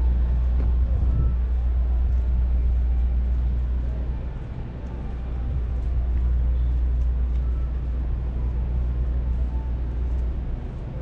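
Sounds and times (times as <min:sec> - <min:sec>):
city traffic rumble: 0:00.0 - 0:11.0
vehicles passing: 0:00.0 - 0:11.0.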